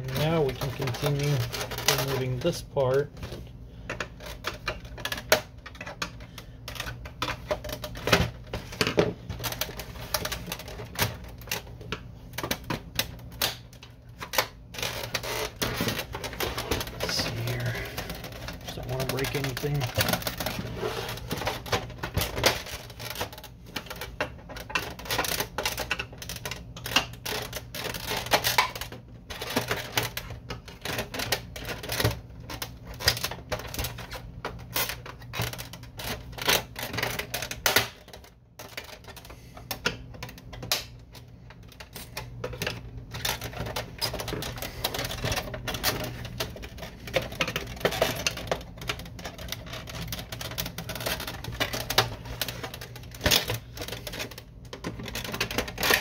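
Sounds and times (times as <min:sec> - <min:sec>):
plastic parts clicking and rattling: 0:00.0 - 0:56.0.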